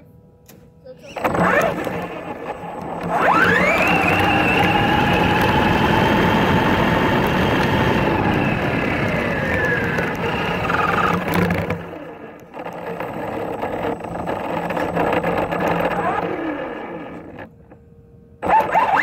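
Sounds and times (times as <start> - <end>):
rc truck motor whining: 1.0 - 17.8, 18.4 - 19.0.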